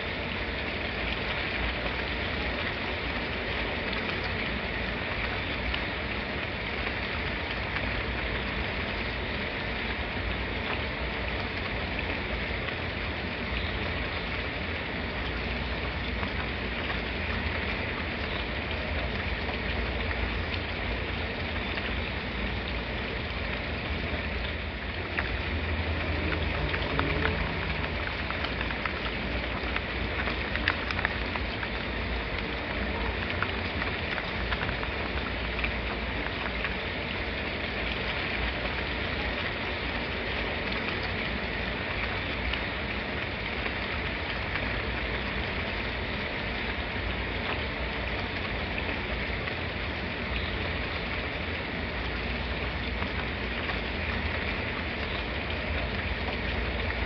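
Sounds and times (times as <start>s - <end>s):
rain drop ticks: 0.0s - 57.0s
steady rain hiss: 0.0s - 57.0s.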